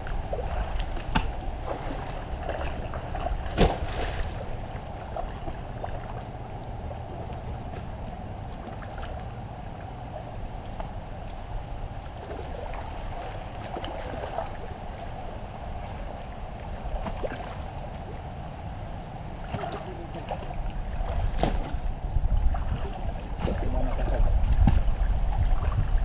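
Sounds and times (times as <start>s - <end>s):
muddy water sloshing: 0.0s - 26.0s
wind rumbling on microphone: 0.0s - 26.0s.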